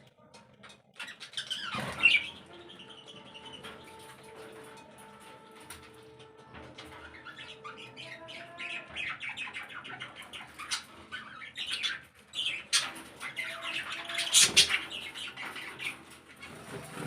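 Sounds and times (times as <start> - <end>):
caged birds chattering: 0.0 - 17.0
bird squawks: 1.0 - 4.8, 6.6 - 17.0.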